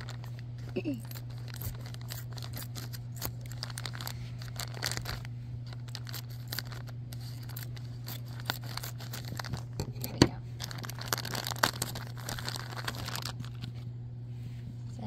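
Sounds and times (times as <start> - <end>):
plastic bag crinkling and tearing: 0.0 - 13.8
steady low hum: 0.0 - 15.0.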